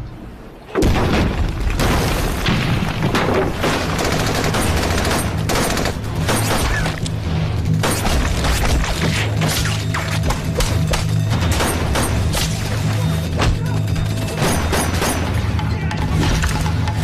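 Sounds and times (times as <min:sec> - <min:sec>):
dramatic background music: 0:00.0 - 0:17.0
gunshots: 0:00.8 - 0:16.8.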